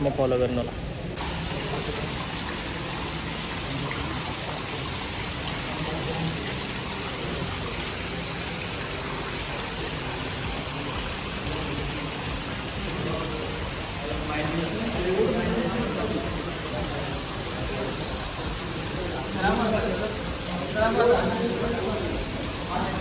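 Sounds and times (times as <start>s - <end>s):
water splashing into pool: 1.2s - 23.0s.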